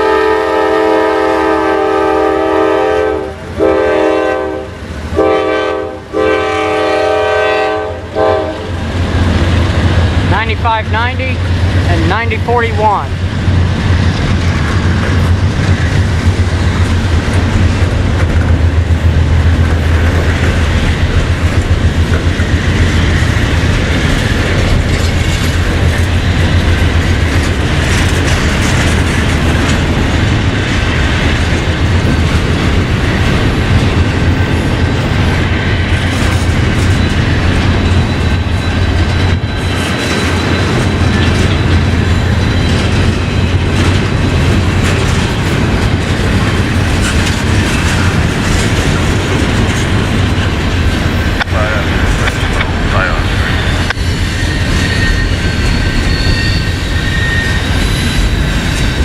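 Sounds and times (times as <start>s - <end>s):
freight train cars rolling past: 0.0s - 59.0s
steel wheels clicking on rails: 8.7s - 59.0s.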